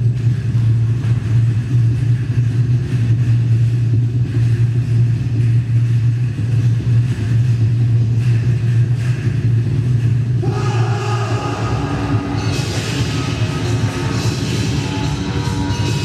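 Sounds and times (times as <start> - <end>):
loud low hum: 0.0 - 16.0.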